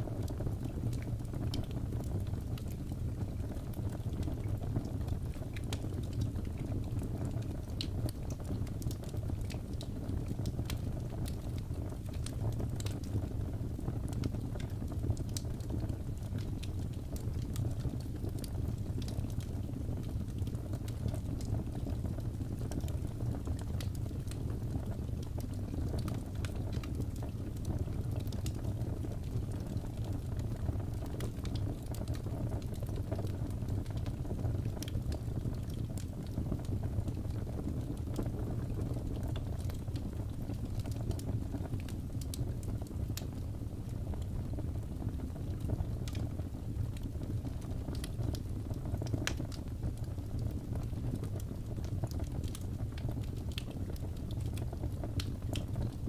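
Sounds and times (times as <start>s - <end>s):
fireplace crackling: 0.0s - 56.0s.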